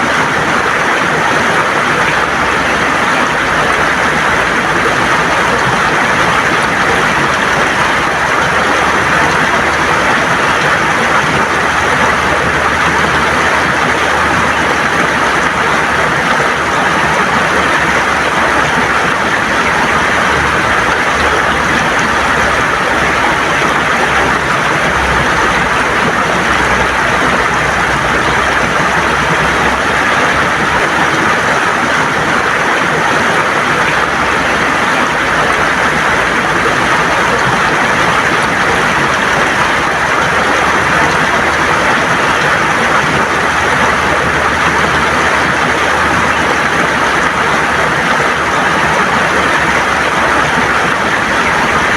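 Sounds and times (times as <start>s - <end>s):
river water gurgling over stones: 0.0s - 51.9s.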